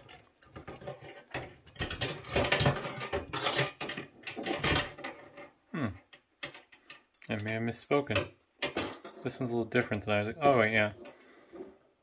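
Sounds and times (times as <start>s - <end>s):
metal and plastic parts clattering: 0.0s - 11.8s.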